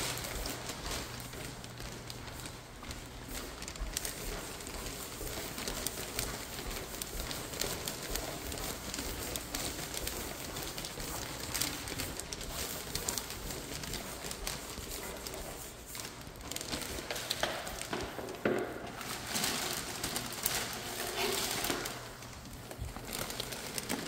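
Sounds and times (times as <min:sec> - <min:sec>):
footsteps on tiled floor: 0:00.0 - 0:24.0.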